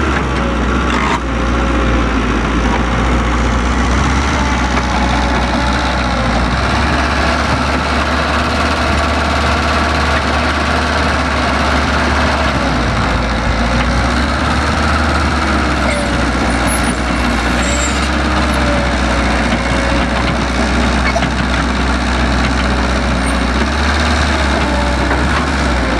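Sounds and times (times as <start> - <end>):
diesel machinery engine hum: 0.0 - 25.9.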